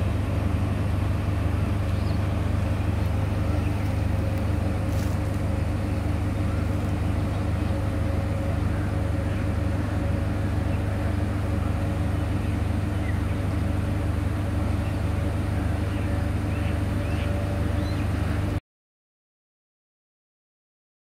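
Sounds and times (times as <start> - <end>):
diesel train engine idling: 0.0 - 18.6.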